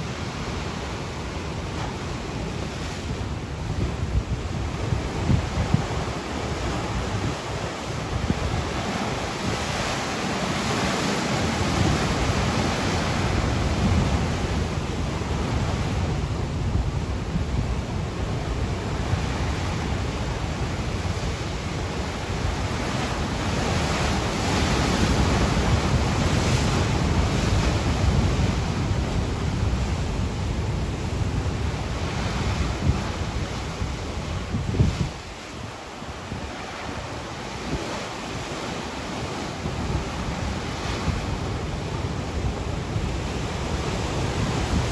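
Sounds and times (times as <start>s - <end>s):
ocean waves breaking on beach: 0.0s - 44.9s.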